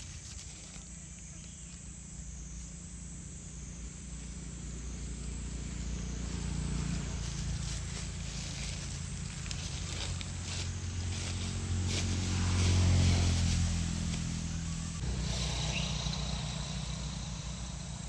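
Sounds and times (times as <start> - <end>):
insects chirring: 0.0 - 18.0
low engine hum: 0.0 - 18.0.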